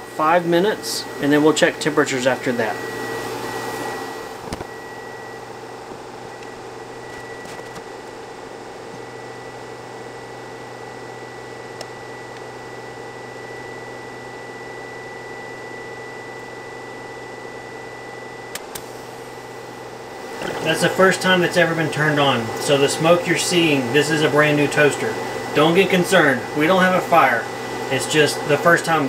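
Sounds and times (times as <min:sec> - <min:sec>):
inverter fan hum with whine: 0:00.0 - 0:29.0.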